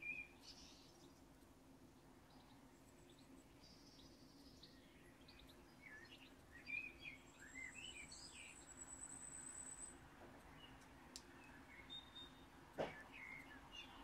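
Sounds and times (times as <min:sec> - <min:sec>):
faint birdsong: 0:00.0 - 0:14.0.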